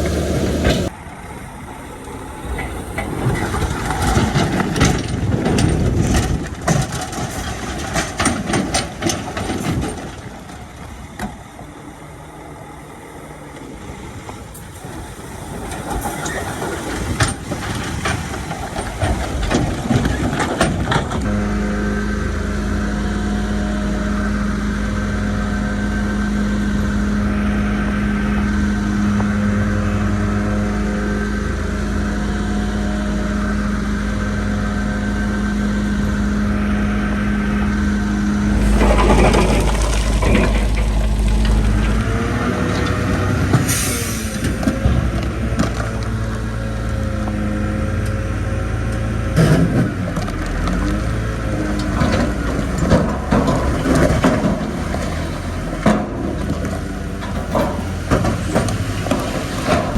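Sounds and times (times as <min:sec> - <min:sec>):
bulldozer tracks knocking and clanking: 0:00.0 - 0:59.9
diesel engine droning: 0:00.0 - 0:59.9.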